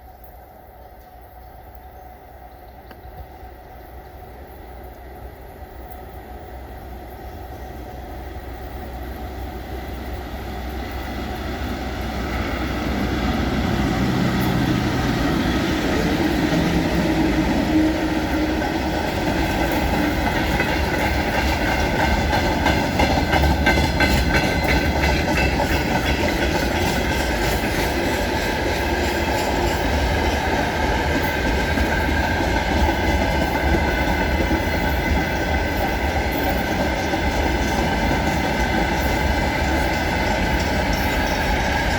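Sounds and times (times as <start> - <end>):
freight train wagons rumbling: 0.0 - 41.9
wheels clickety-clack on rail joints: 2.7 - 41.9.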